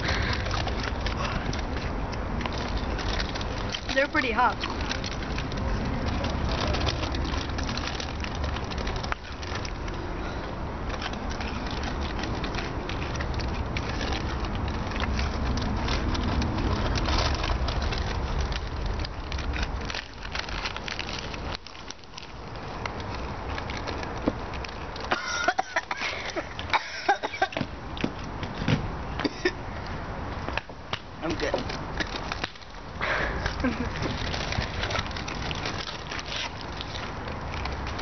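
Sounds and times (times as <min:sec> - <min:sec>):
chips crunching: 0:00.0 - 0:29.5, 0:30.2 - 0:38.0
foil bags crinkling: 0:00.0 - 0:38.0.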